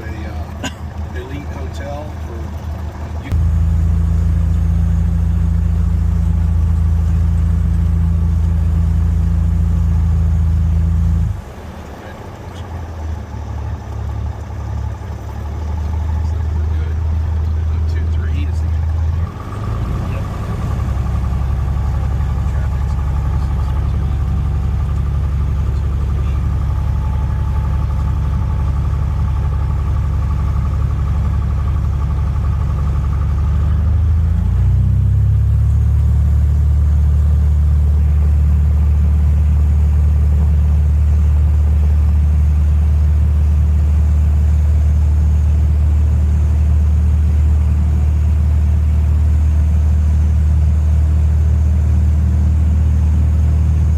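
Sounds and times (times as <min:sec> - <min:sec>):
propeller plane engine droning: 0:00.0 - 0:53.9.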